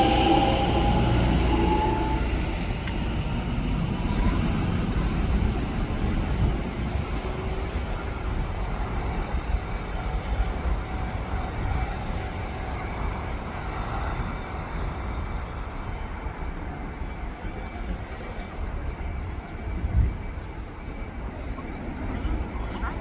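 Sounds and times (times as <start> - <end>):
train rumbling past: 0.0 - 23.0.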